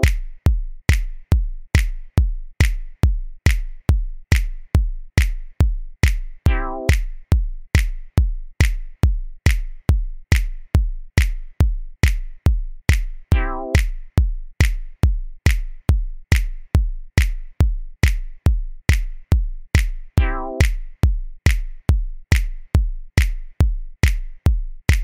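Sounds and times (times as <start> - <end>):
hi-hat ticks: 0.0 - 25.0
kick drum: 0.0 - 25.0.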